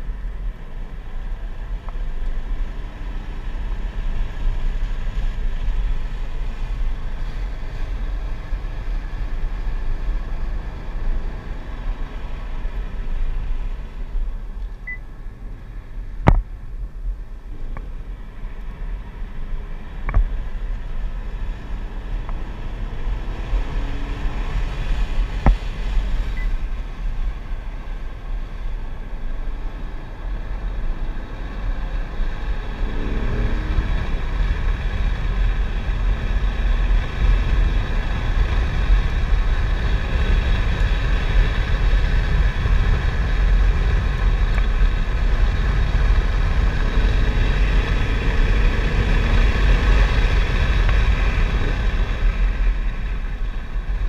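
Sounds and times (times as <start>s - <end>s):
car engine rumble in cabin: 0.0s - 54.0s
road and wind noise: 0.0s - 54.0s.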